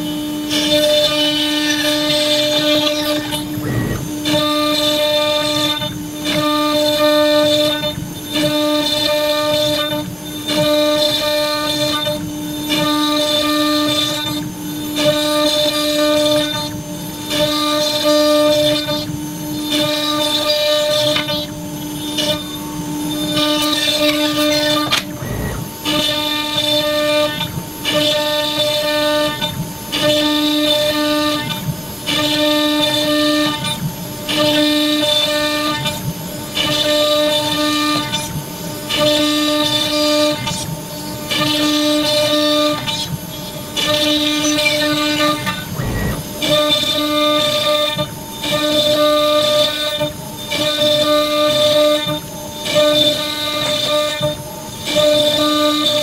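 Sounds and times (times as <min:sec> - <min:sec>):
cnc router spindle cutting wood: 0:00.0 - 0:56.0.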